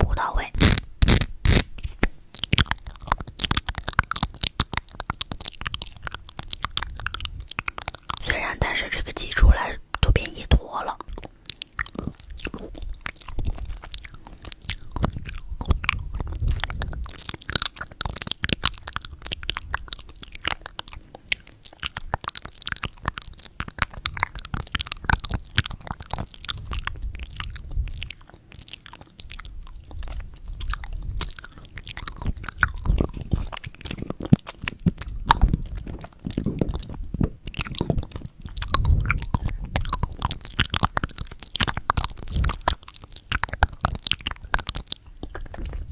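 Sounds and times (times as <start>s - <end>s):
chewing jelly candy: 0.0s - 45.9s.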